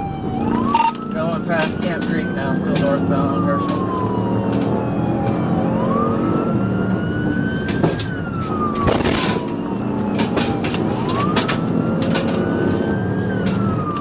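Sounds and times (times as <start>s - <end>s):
car engine and road noise: 0.0s - 14.0s
police siren wailing: 0.0s - 14.0s.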